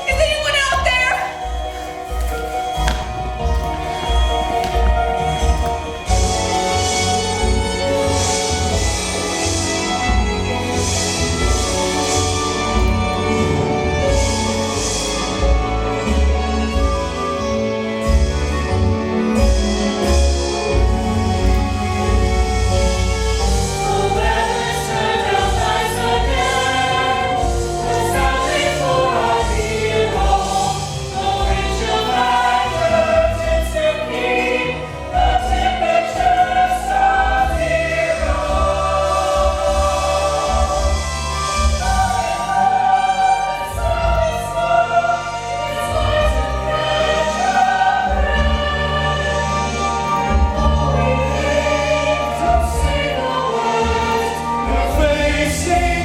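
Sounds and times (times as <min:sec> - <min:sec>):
instrumental accompaniment with bass: 0:00.0 - 0:56.0.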